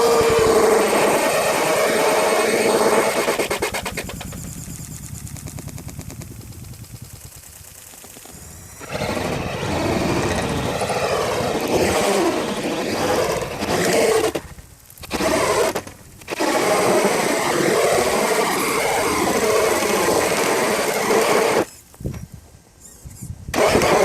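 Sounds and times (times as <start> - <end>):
electric motor whine: 0.0 - 21.8, 22.8 - 24.0.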